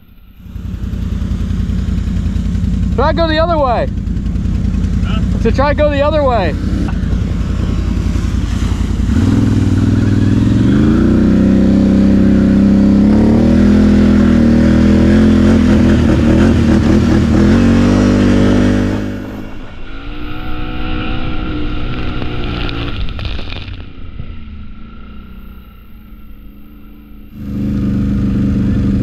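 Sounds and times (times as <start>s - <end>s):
atv engine revving: 0.3s - 29.0s.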